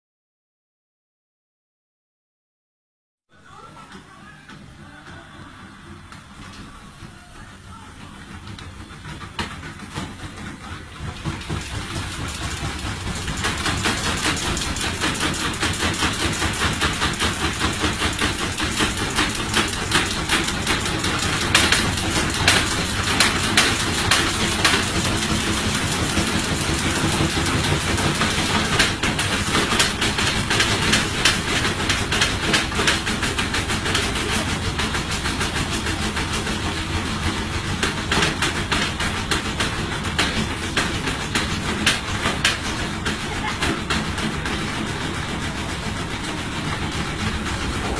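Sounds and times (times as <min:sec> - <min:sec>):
fast continuous knocking: 0:03.4 - 0:47.9
washing machine shaking and rattling: 0:03.4 - 0:47.9.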